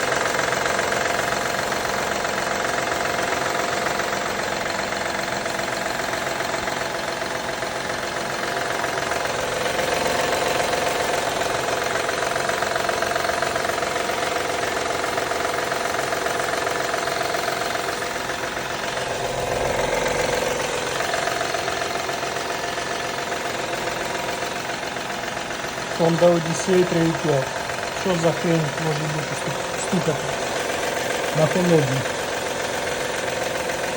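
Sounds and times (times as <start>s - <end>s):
car engine running with knock: 0.0s - 33.9s.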